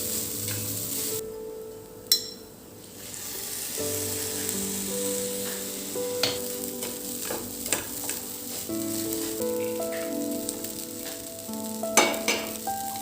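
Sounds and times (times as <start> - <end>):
music of slow held chords: 0.0 - 13.0
steady high hiss: 0.0 - 13.0.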